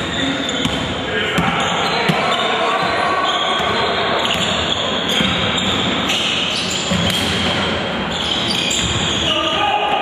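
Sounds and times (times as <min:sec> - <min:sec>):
crowd noise in hall: 0:00.0 - 0:10.0.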